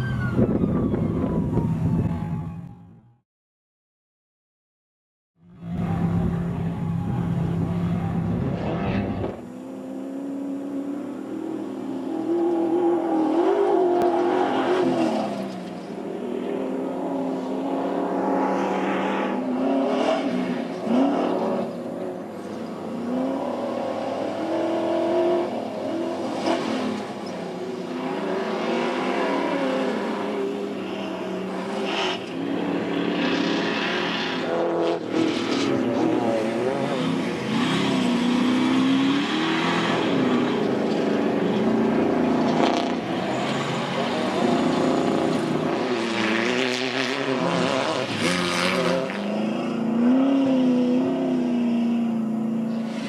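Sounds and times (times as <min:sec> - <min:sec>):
race truck engines revving: 0:05.4 - 0:53.0.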